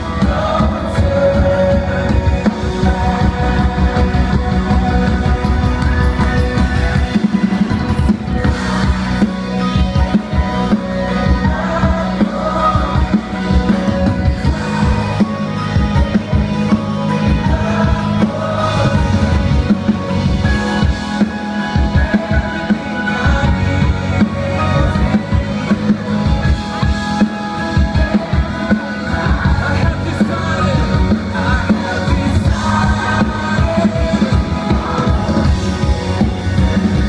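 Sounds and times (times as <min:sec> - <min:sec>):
live worship band playing: 0:00.0 - 0:37.0.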